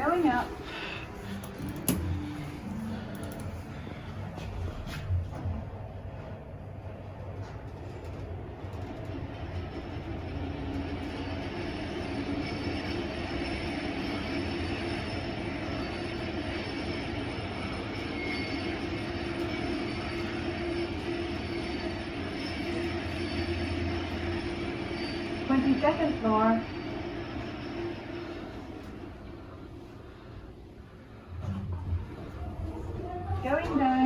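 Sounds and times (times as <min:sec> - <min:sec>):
elevator rumbling and grinding: 0:00.0 - 0:34.0.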